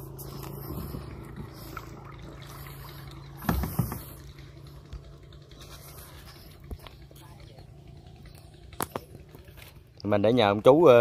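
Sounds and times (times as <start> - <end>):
faint water sounds: 0.0 - 11.0
low motor hum: 0.0 - 11.0.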